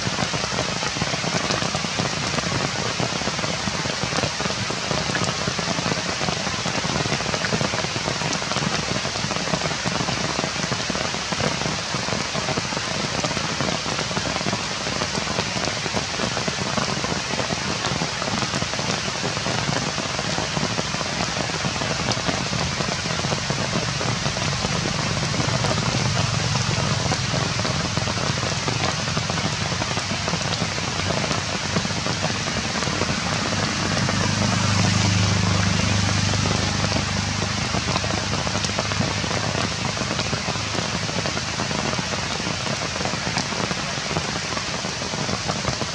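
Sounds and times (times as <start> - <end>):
rain falling on foliage: 0.0 - 45.9.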